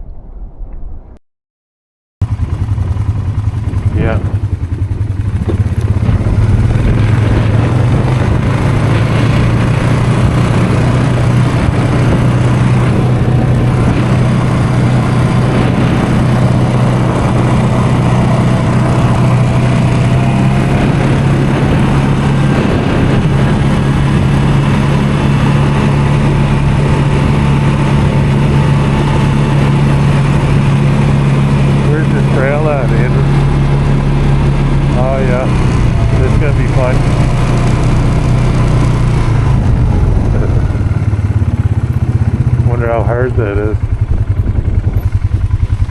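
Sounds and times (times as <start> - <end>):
atv engine running: 2.2 - 45.9.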